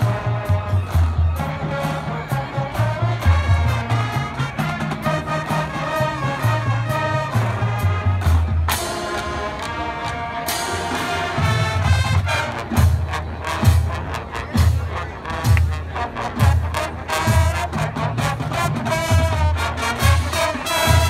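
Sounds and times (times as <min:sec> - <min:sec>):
marching band playing: 0:00.0 - 0:21.0.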